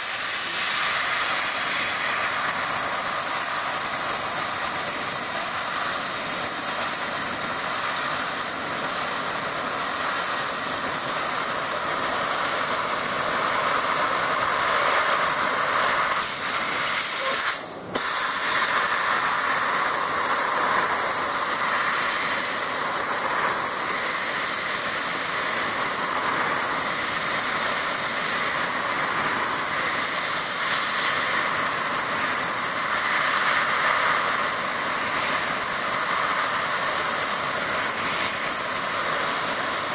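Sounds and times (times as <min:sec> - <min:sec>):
laser cutter gas hiss: 0:00.0 - 0:39.9
thin high whine: 0:00.0 - 0:39.9.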